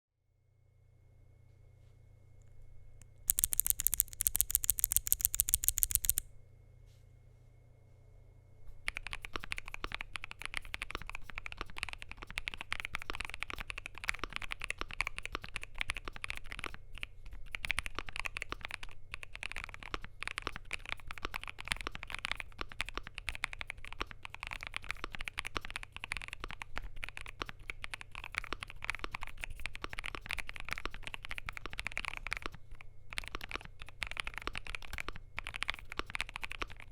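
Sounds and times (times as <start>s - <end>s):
rapid sharp high clicks: 3.0s - 6.2s, 8.9s - 36.9s
mechanical keyboard typing: 3.3s - 6.2s, 8.9s - 36.9s.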